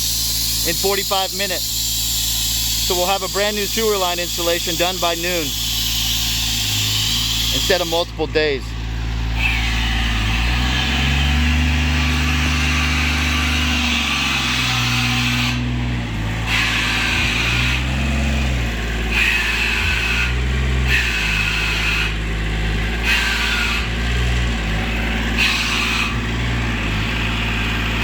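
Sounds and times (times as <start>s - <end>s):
air hissing: 0.0s - 28.0s
engine-driven machine running: 0.0s - 28.0s.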